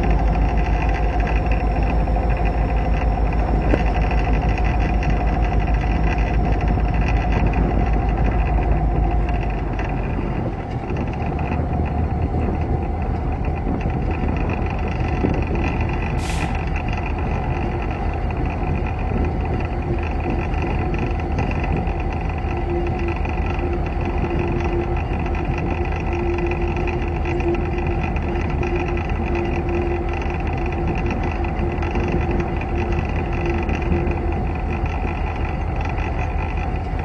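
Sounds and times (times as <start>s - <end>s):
diesel locomotive engine drone: 0.0s - 37.0s
wheels rumbling on rails: 0.0s - 37.0s.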